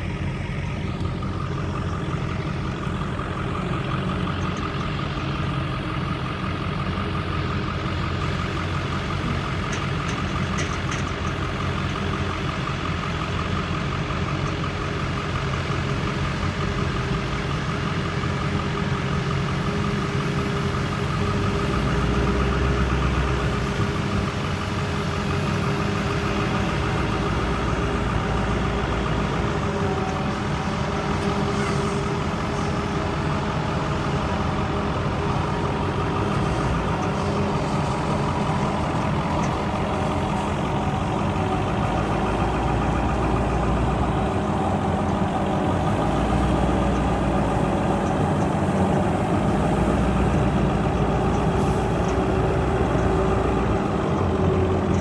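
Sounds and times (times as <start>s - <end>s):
heavy machinery engine droning: 0.0s - 55.0s.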